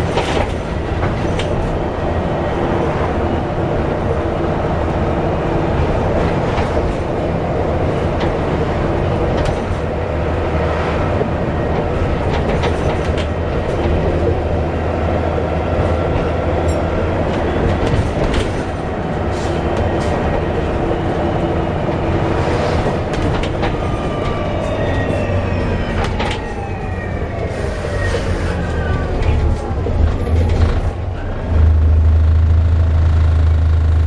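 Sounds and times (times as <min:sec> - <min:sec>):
bus engine drone: 0:00.0 - 0:34.0.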